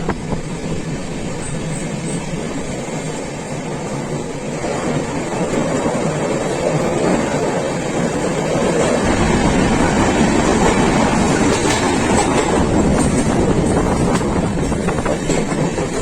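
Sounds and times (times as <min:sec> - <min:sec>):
train rumbling on track: 0:00.0 - 0:16.0
wheels clicking over rails: 0:01.3 - 0:16.0.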